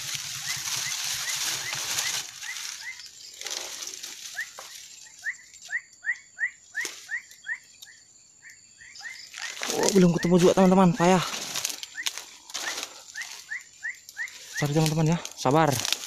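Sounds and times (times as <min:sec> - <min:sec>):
leaves and stems rustling: 0:00.0 - 0:08.0, 0:09.0 - 0:16.0.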